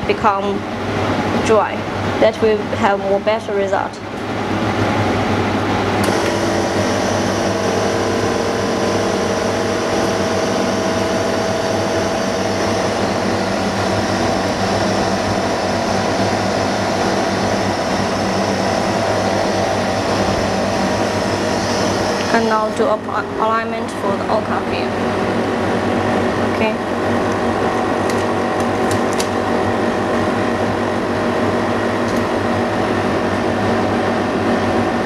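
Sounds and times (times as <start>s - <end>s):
laminating machine whirring hum: 0.0s - 35.0s.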